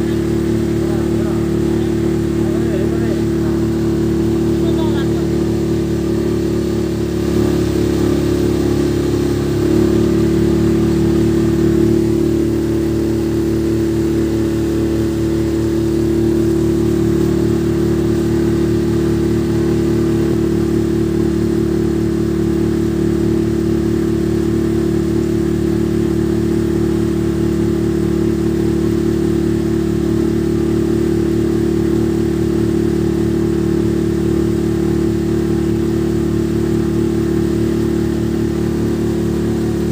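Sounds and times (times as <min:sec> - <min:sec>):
motorboat engine droning: 0:00.0 - 0:39.9.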